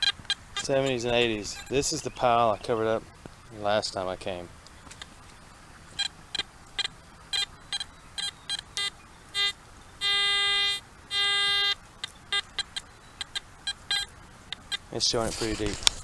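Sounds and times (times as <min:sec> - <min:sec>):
metal detector beeping: 0:00.0 - 0:02.8, 0:06.0 - 0:16.0.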